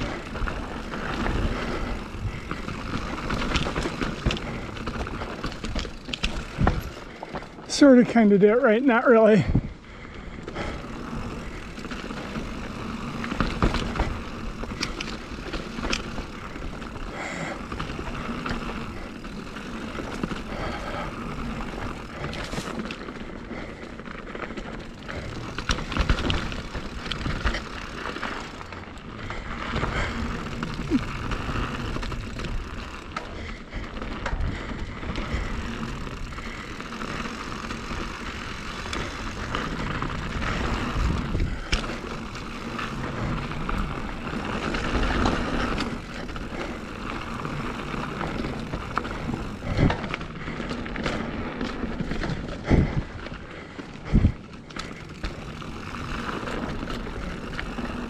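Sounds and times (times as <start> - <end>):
bike knocking and rattling: 0.0 - 58.0
bike tyres rushing on dirt: 0.0 - 58.0.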